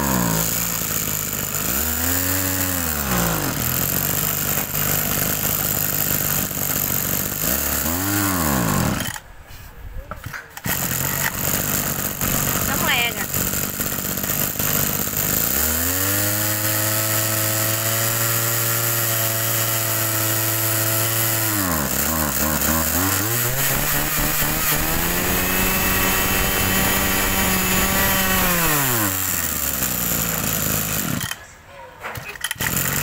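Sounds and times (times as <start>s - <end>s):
brush cutter engine revving: 0.0s - 9.3s, 10.2s - 31.4s, 32.2s - 33.0s.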